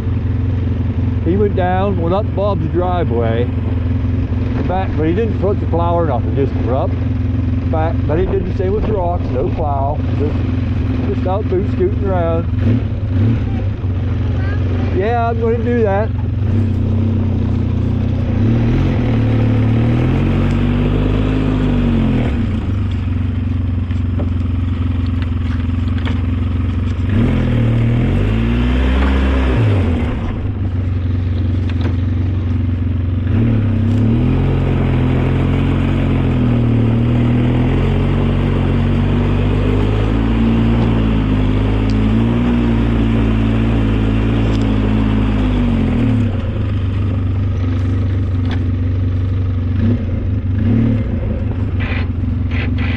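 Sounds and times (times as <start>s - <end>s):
snowplow engine running: 0.0s - 52.9s.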